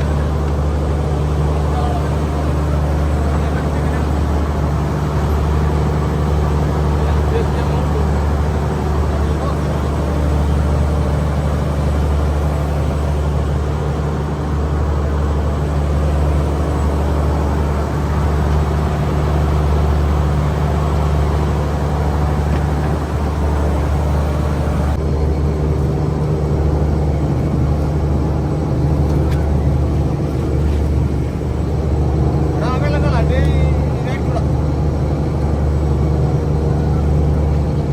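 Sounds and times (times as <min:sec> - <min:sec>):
boat engine droning: 0:00.0 - 0:37.9.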